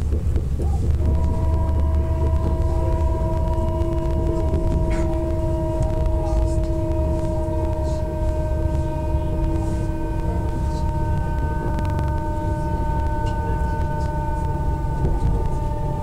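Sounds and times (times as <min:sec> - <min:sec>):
train motor whine: 0:00.0 - 0:16.0
train wheels rumbling on track: 0:00.0 - 0:16.0.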